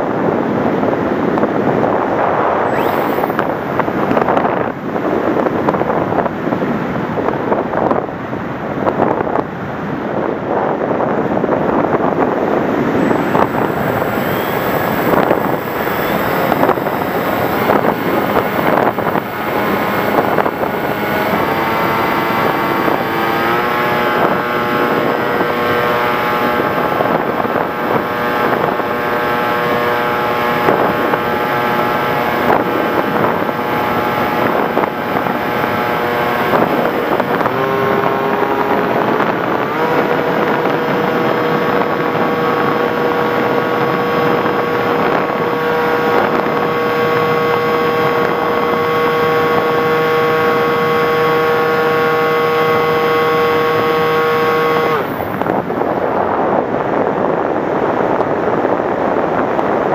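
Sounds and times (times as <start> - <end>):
wind rushing over microphone: 0.0 - 59.9
electric motor whine: 1.8 - 6.3, 12.3 - 56.6.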